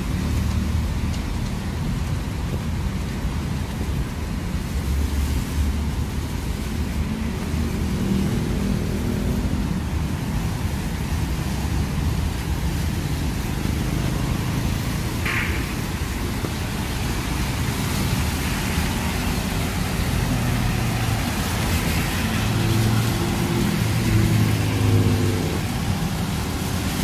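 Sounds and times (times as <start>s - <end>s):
rain and tyres hissing: 0.0s - 27.0s
vehicle engines rumbling: 0.0s - 27.0s.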